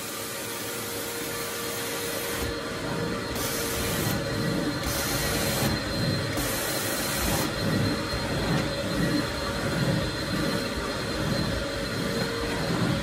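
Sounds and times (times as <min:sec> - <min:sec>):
carpet extraction machine suction roar: 0:00.0 - 0:13.0.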